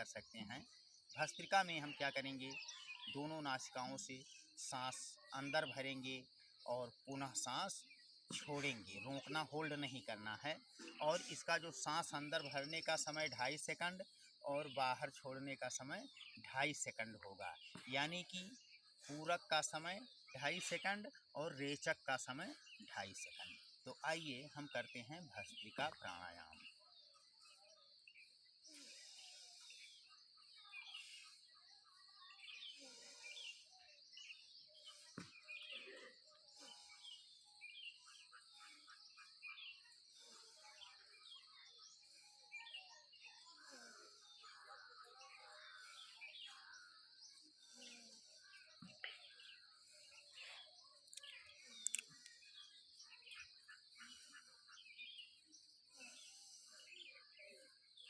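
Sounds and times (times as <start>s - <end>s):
distant bird chirps: 0.0s - 58.0s.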